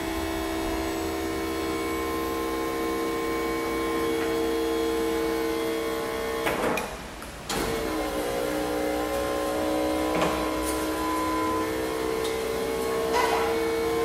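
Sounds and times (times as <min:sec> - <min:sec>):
hydraulic pump motor whining: 0:00.0 - 0:06.9, 0:07.5 - 0:14.0.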